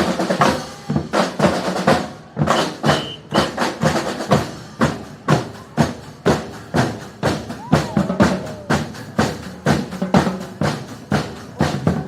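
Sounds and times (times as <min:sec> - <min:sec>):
drum troupe playing rhythm: 0:00.0 - 0:12.0
snare and bass drums striking: 0:00.0 - 0:12.0.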